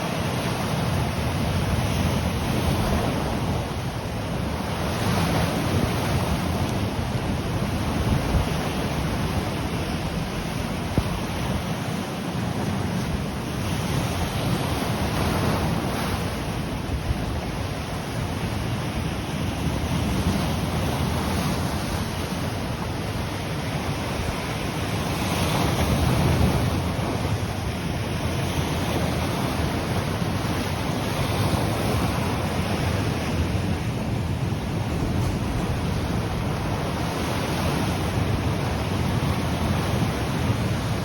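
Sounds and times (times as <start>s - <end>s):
ocean waves breaking on shore: 0.0s - 41.0s
wind buffeting microphone: 0.2s - 41.0s.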